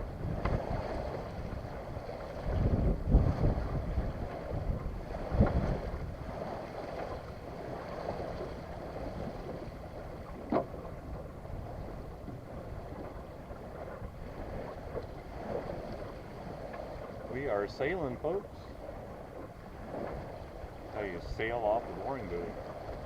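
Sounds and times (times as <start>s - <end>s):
water moving along a hull: 0.0s - 23.0s
wind buffeting microphone: 0.0s - 23.0s.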